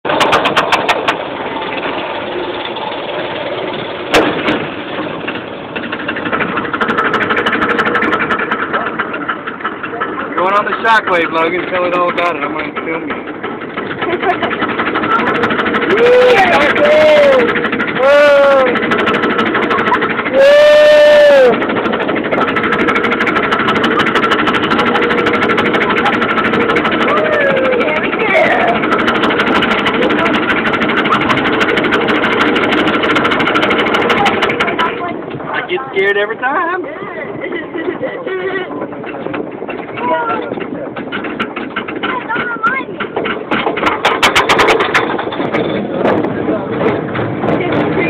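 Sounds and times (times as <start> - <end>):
amusement ride mechanical rattle: 0.0 - 48.0
roller coaster rumbling on track: 0.0 - 48.0.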